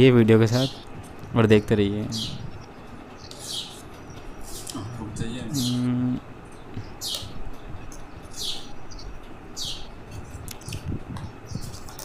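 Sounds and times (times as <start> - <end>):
small bird chirping: 0.5 - 12.0.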